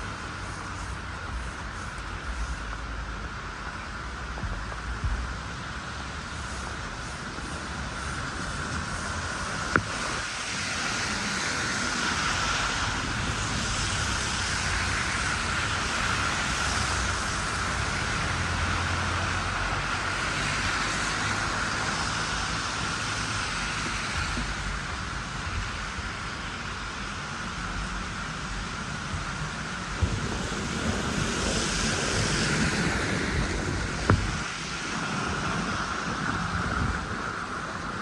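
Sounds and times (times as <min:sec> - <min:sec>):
traffic hissing on slushy road: 0:00.0 - 0:38.0.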